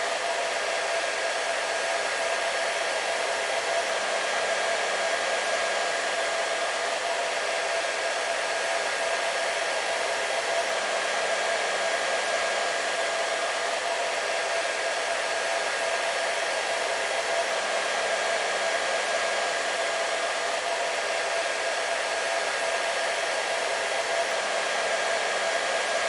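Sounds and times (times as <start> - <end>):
hair dryer blowing: 0.0 - 26.0.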